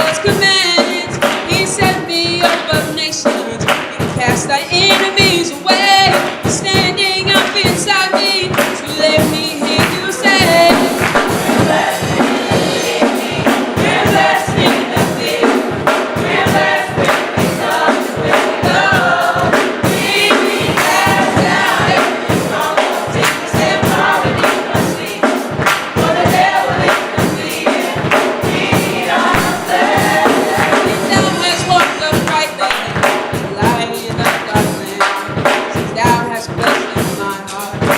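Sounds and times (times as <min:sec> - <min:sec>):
gospel choir singing: 0:00.0 - 0:37.9
instrumental backing: 0:00.0 - 0:37.9.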